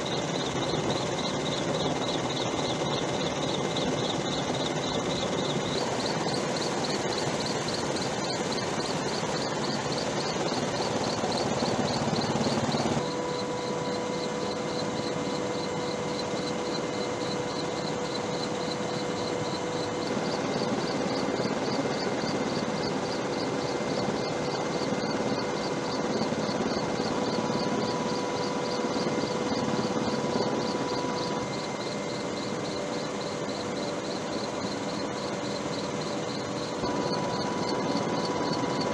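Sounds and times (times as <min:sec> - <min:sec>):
helicopter engine and rotor: 0:00.0 - 0:38.9
steady hum: 0:00.0 - 0:38.9.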